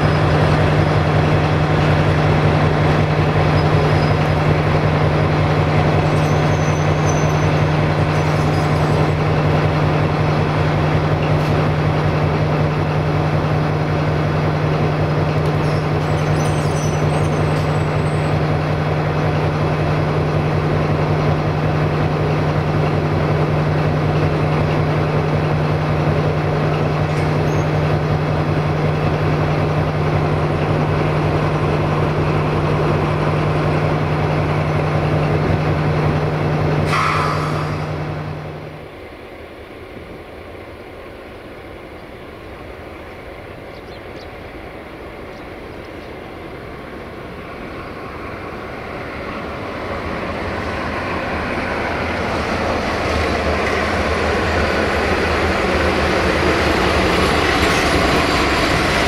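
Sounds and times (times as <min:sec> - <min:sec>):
diesel locomotive engine humming: 0:00.0 - 0:59.0.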